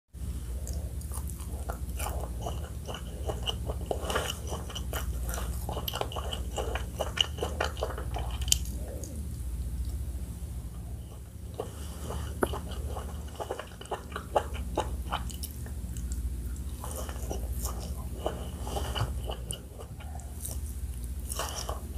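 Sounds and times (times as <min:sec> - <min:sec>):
low hum: 0:00.2 - 0:21.9
crunchy chewing: 0:00.3 - 0:21.9.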